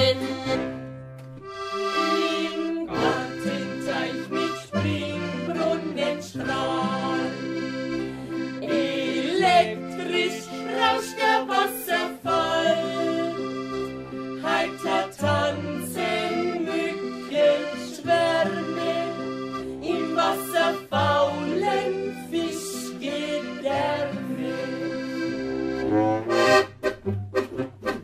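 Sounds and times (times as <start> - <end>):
accordion folk music: 0.0 - 28.0.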